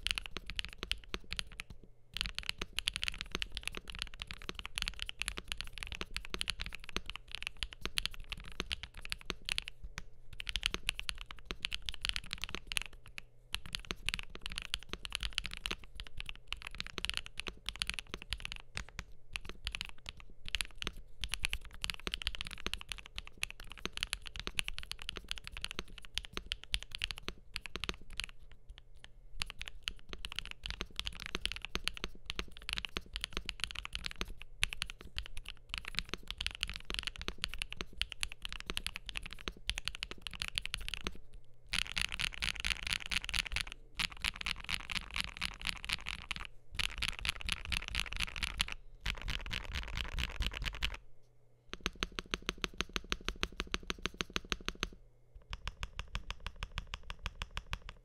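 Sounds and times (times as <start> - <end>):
mechanical keyboard typing: 0.0 - 51.0, 51.7 - 58.0.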